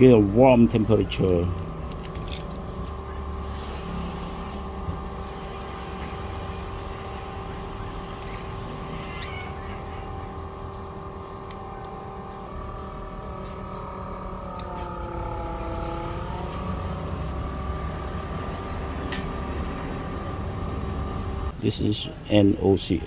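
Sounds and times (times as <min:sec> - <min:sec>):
vacuum pump humming: 0:00.0 - 0:21.6.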